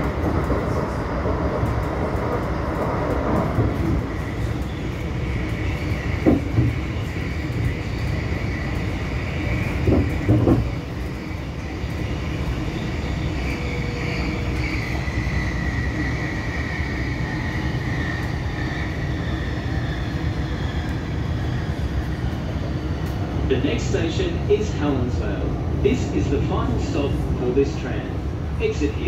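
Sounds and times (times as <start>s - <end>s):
tram rumble: 0.0s - 29.0s.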